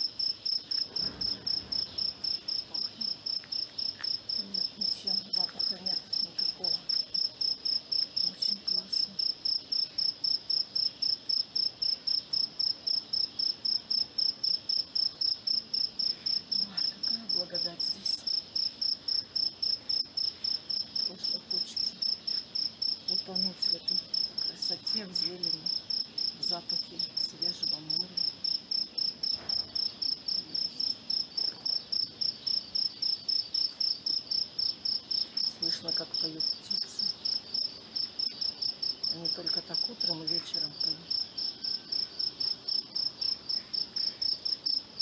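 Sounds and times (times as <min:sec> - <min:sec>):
cricket chirping: 0:00.0 - 0:45.0.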